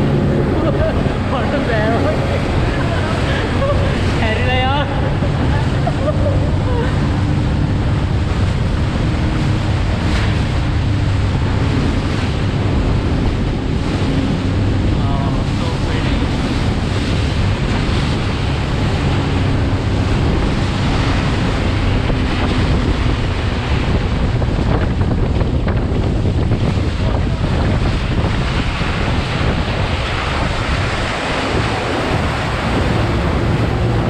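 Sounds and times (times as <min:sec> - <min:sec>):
river rapids rushing: 0:00.0 - 0:25.2, 0:26.3 - 0:34.0
boat engine drone: 0:00.0 - 0:34.0
wind buffeting microphone: 0:00.0 - 0:34.0.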